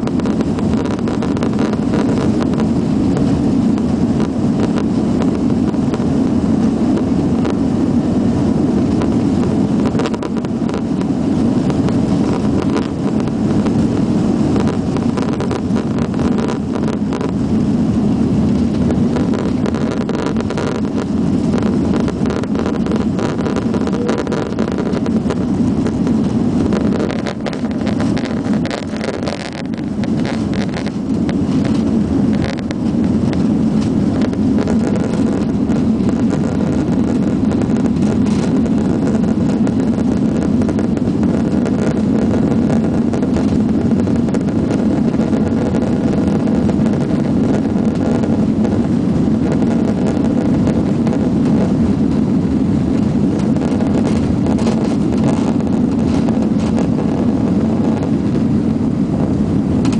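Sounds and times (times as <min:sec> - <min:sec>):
loud jet engine rumble: 0:00.0 - 0:59.9
rushing air: 0:00.0 - 0:59.9.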